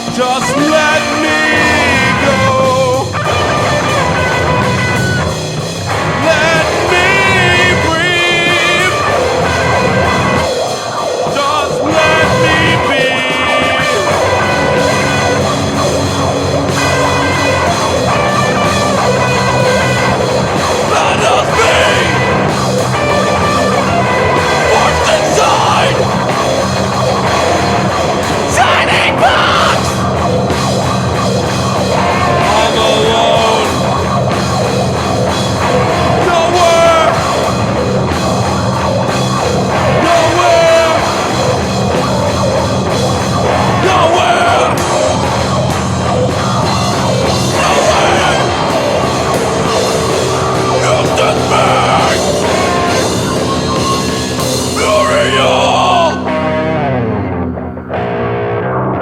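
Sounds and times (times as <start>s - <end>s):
loud rock music: 0.0s - 59.0s.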